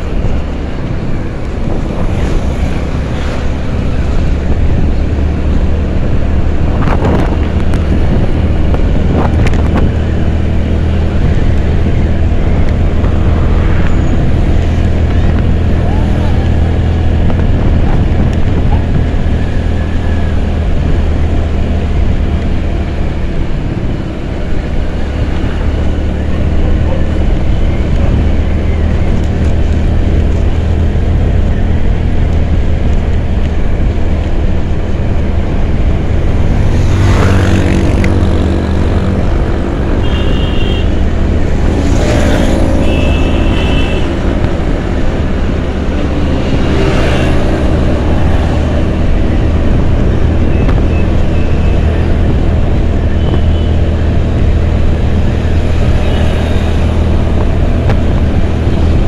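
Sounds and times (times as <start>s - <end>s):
road rumble: 0.0s - 59.0s
vehicles passing: 0.0s - 59.0s
wind rush: 0.0s - 59.0s.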